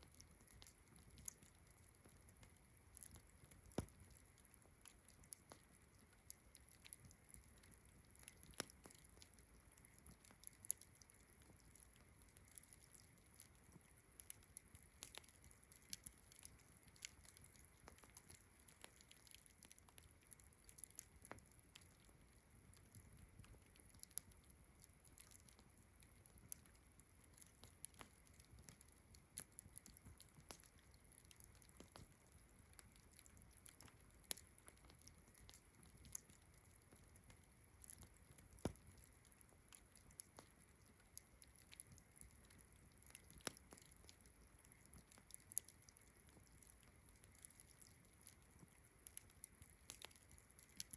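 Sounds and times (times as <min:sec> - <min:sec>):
campfire crackling: 0:00.0 - 0:50.9.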